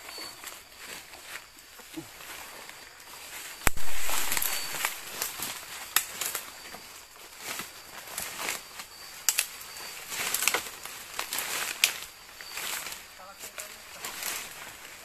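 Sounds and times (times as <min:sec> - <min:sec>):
faint insect chirps: 0:00.0 - 0:15.0
leaves and twigs crackling: 0:00.0 - 0:15.0.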